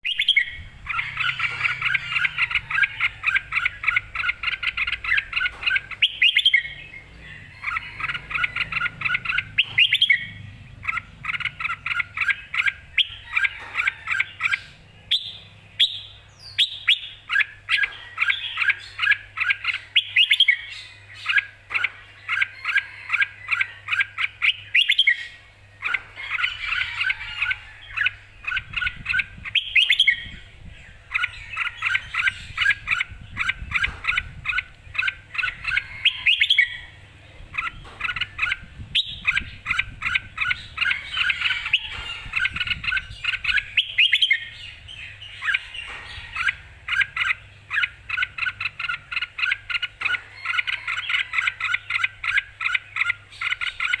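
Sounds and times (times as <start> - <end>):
bird singing bright repeated notes: 0.0 - 54.0.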